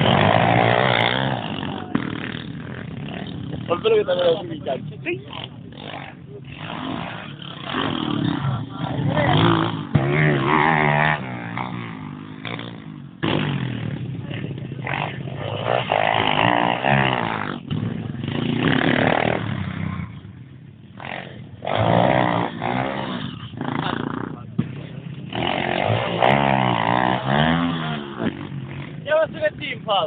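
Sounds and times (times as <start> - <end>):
motorbike engine revving: 0.0 - 29.7.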